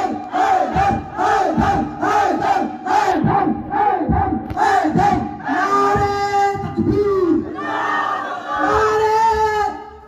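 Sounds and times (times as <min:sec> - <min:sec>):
crowd shouting a chant: 0:00.0 - 0:09.9.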